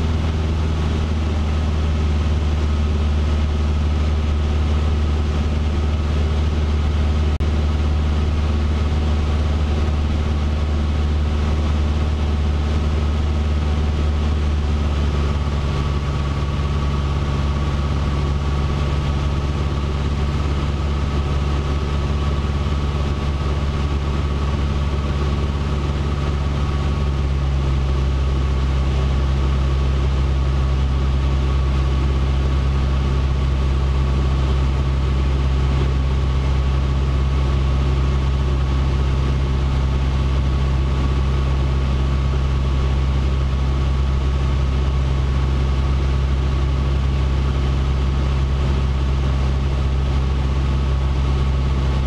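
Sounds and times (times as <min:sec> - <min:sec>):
small plane engine droning: 0:00.0 - 0:52.0.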